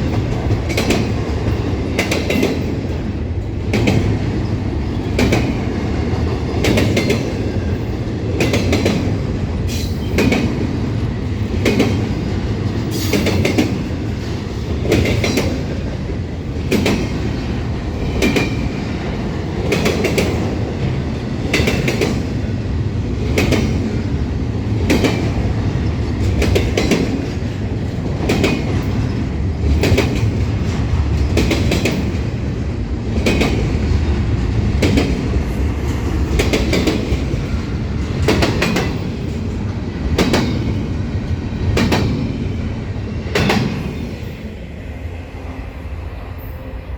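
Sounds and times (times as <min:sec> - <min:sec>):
train cars rumbling past: 0:00.0 - 0:46.9.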